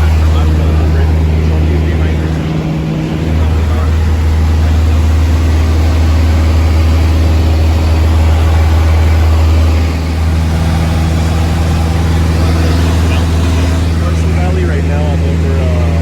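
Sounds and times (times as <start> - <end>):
aircraft engine idling: 0.0 - 16.0.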